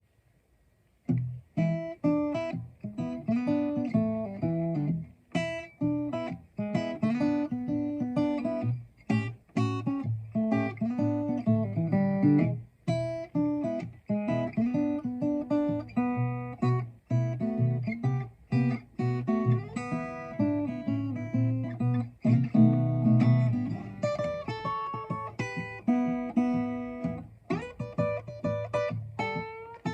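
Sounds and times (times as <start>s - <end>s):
guitar strumming chords: 1.1s - 29.9s.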